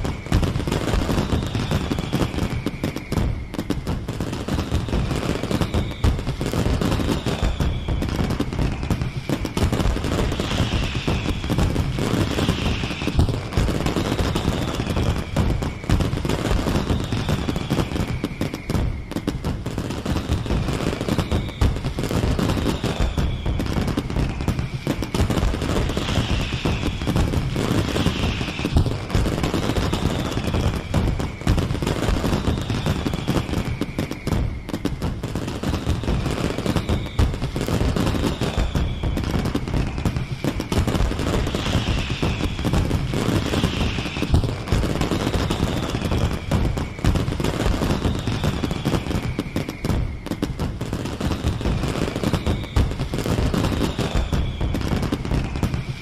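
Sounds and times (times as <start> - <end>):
falling whistle of fireworks: 0.0 - 56.0
fireworks crackling bangs: 0.0 - 56.0.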